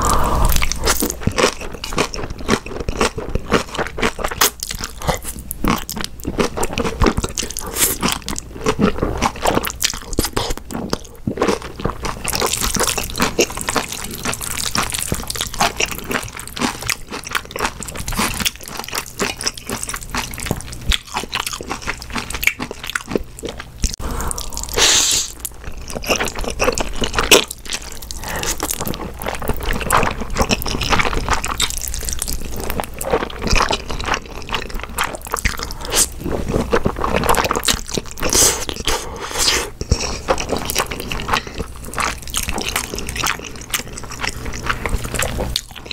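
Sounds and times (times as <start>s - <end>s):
chewing: 0.0s - 45.9s.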